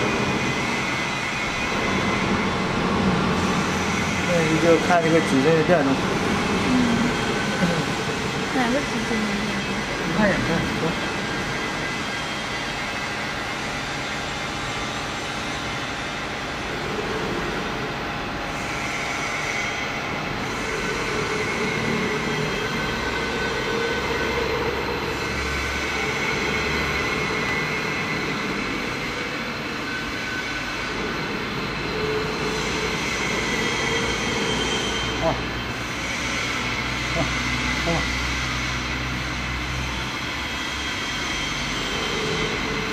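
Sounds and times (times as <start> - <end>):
electric motor and gear hum: 0.0 - 42.9.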